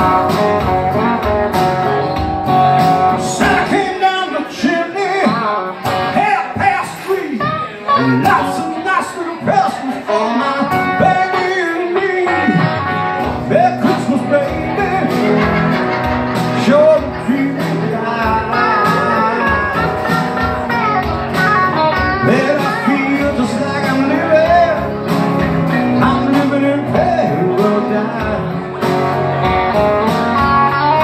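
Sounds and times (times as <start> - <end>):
blues guitars playing: 0.0 - 31.0
man singing: 3.1 - 20.8, 21.4 - 29.4.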